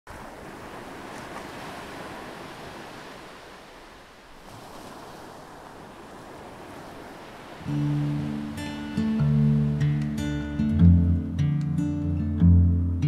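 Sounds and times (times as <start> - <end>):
waves breaking on a beach: 0.1 - 10.6.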